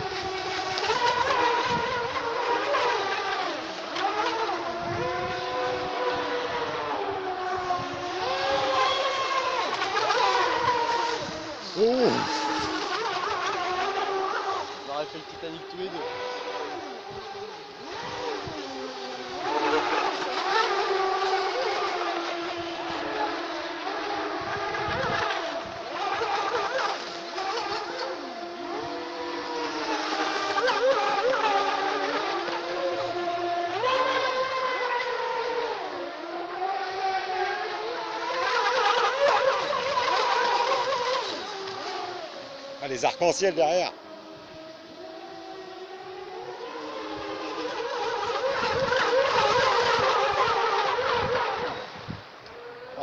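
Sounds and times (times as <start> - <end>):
electric motors whining: 0.0 - 53.0
hulls hissing on water: 0.0 - 53.0.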